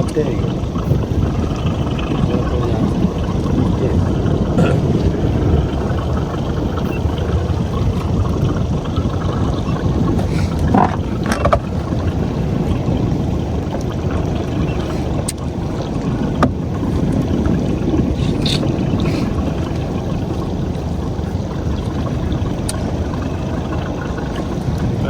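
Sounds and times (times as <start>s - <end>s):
fishing boat engine rumble: 0.0s - 25.0s
water noise: 0.0s - 25.0s
wind: 0.0s - 25.0s.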